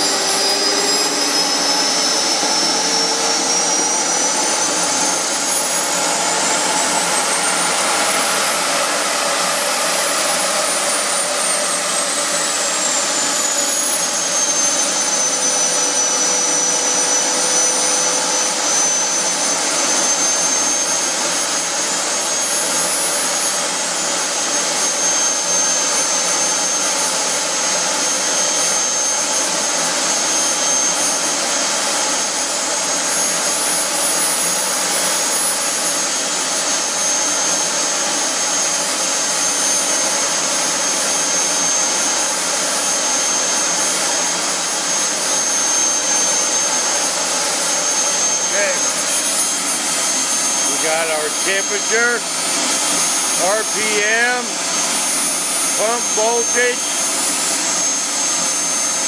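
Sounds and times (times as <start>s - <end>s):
model jet turbine running: 0.0s - 59.0s.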